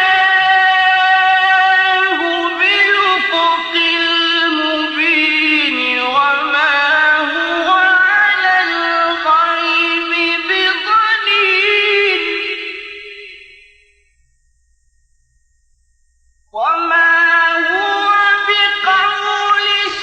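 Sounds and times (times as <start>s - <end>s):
man chanting melodically: 0.0s - 13.5s, 16.6s - 20.0s.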